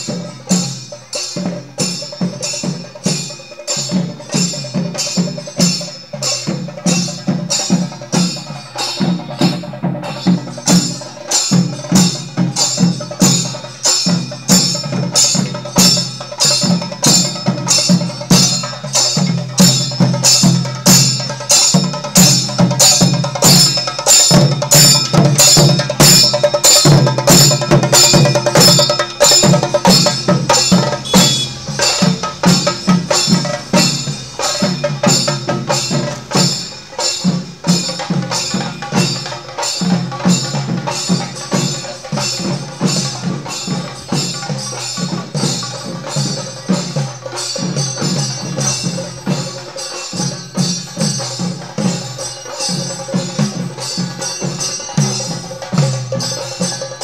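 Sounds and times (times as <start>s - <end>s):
drums beating rhythmically: 0.0s - 57.0s
metallic ringing: 0.0s - 57.0s.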